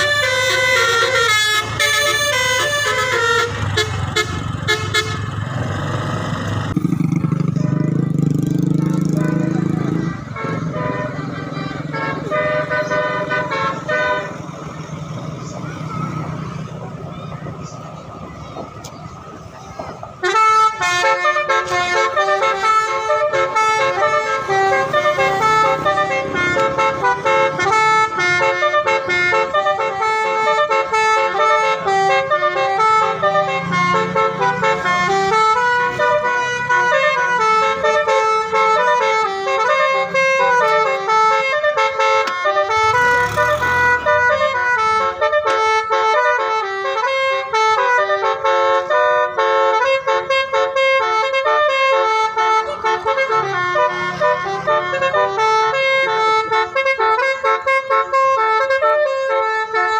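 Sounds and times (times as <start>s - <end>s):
multi-trumpet bus horn melody: 0.0s - 5.7s, 7.5s - 16.6s, 20.1s - 59.9s.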